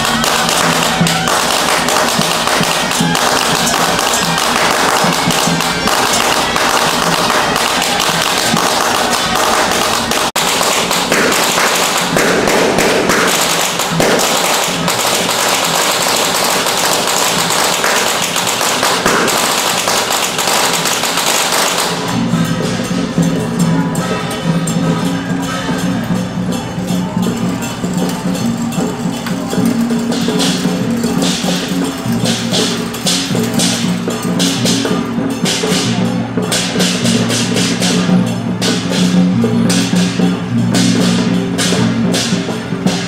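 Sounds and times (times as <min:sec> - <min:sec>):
firecrackers crackling: 0:00.0 - 0:43.0.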